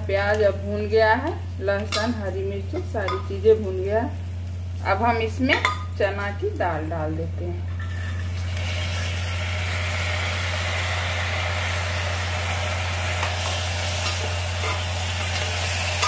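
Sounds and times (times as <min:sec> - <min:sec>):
lentils sizzling in hot oil: 0:00.0 - 0:16.0
steady low hum: 0:00.0 - 0:16.0.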